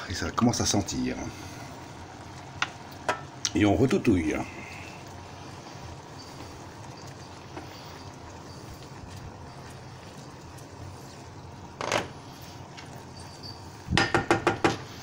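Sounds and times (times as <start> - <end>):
sauce simmering: 0.0 - 15.0
wooden spoon stirring: 0.1 - 15.0.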